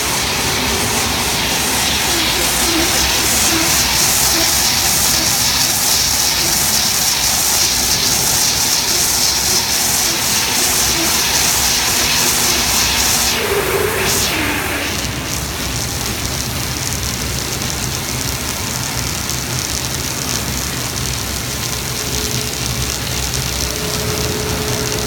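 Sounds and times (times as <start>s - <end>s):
high hiss: 0.0s - 25.0s
machine running: 0.0s - 25.0s.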